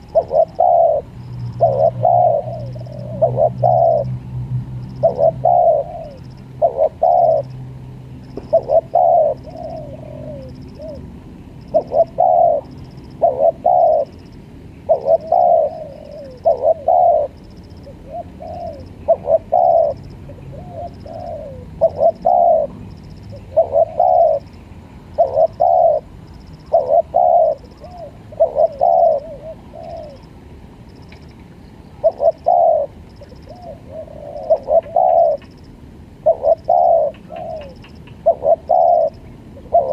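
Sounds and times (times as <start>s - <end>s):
dove cooing: 0.0s - 4.2s, 4.9s - 7.6s, 8.3s - 14.3s, 14.9s - 24.5s, 25.1s - 30.3s, 32.0s - 35.6s, 36.2s - 39.9s.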